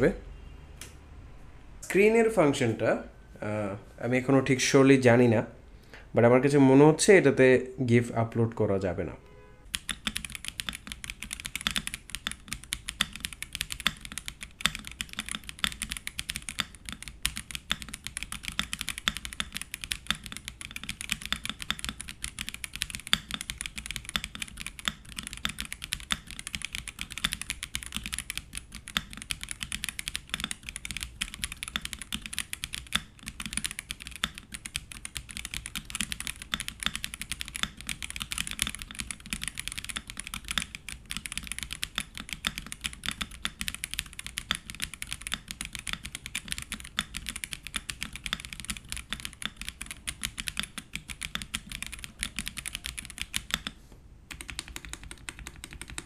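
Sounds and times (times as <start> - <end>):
fast typing on mechanical keyboard: 9.7 - 56.0.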